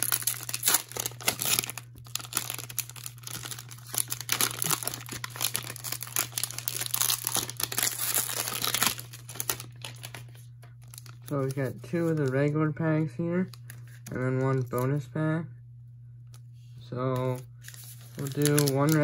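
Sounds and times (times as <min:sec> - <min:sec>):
cellophane wrapper crinkling and tearing: 0:00.0 - 0:12.6, 0:13.5 - 0:14.8, 0:17.3 - 0:19.0.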